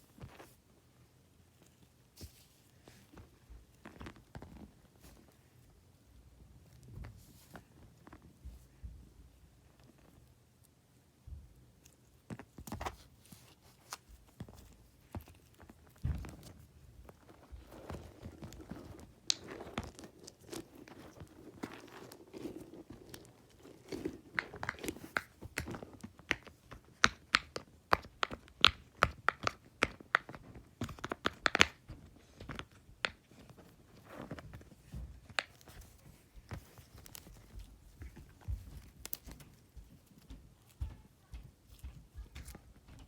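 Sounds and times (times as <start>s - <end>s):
crinkling: 0.0s - 8.8s, 11.7s - 43.0s.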